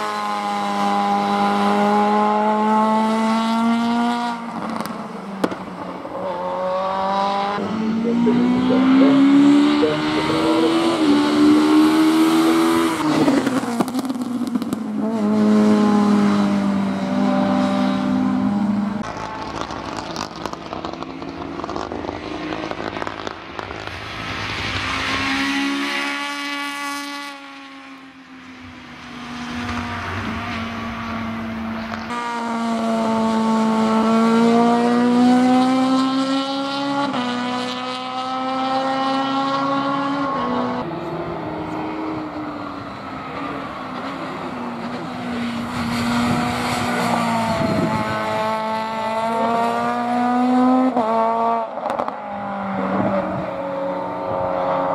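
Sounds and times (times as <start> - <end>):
car engine at high revs: 0.0 - 54.9.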